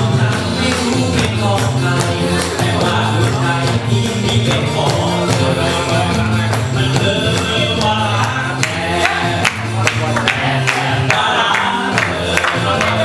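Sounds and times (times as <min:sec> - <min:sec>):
song sung over percussion beat: 0:00.0 - 0:13.0.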